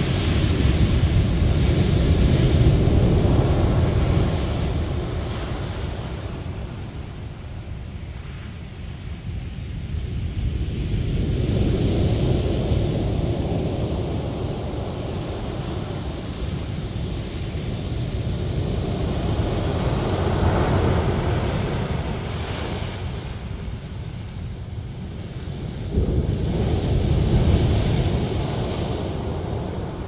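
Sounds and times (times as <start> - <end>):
surf washing up pebble beach: 0.0 - 30.0
wind rumbling on microphone: 0.0 - 30.0.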